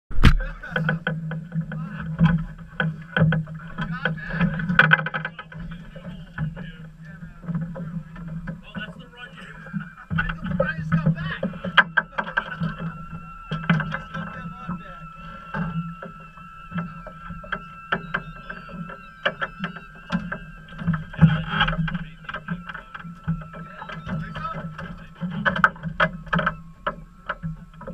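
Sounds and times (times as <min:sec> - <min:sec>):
knocks and clicks of boat hull: 0:00.1 - 0:27.9
low motor hum: 0:00.1 - 0:27.9.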